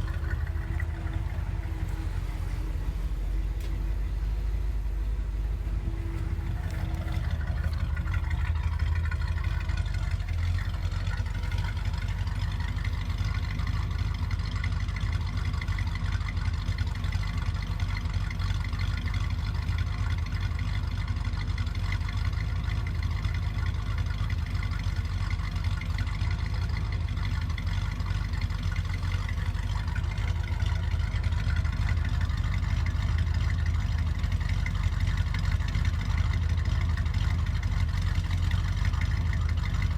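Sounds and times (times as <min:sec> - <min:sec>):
car engine deep exhaust note: 0:00.0 - 0:39.9.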